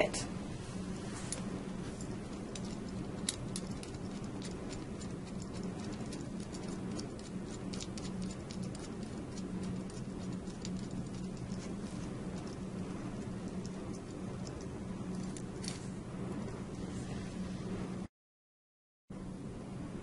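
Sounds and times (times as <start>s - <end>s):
steady low hum: 0.0s - 18.1s, 19.1s - 20.0s.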